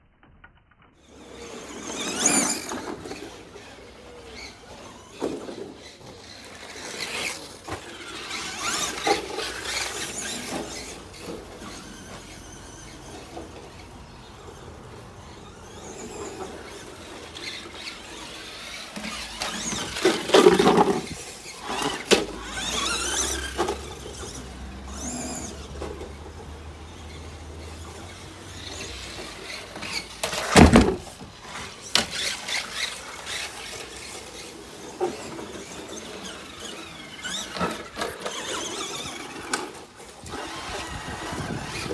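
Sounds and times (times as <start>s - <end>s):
rc car motors whining: 0.3s - 41.9s.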